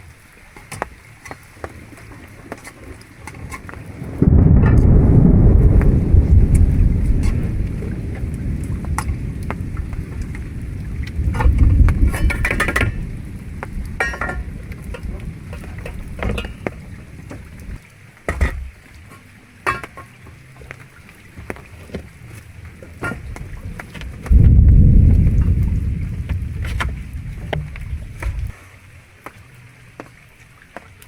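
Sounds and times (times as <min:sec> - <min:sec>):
wind and rain rumble: 0:00.0 - 0:31.0.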